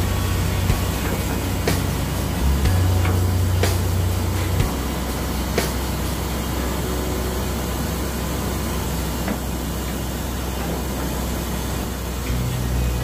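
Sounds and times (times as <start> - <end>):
heavy machinery engine drone: 0.0 - 13.0.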